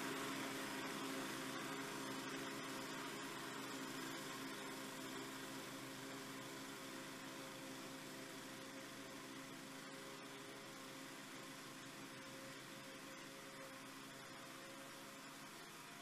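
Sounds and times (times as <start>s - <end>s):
lawn mower engine hum: 0.0s - 16.0s.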